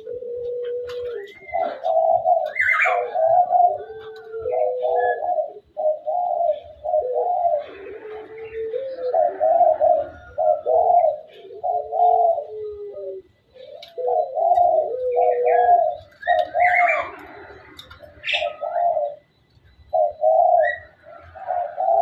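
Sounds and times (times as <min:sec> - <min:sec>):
bird calling low notes: 0:00.0 - 0:22.0.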